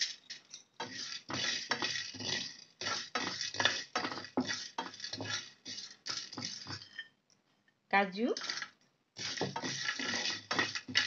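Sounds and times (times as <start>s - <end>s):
wooden spatula scraping spices: 0.0s - 7.1s, 8.3s - 11.0s.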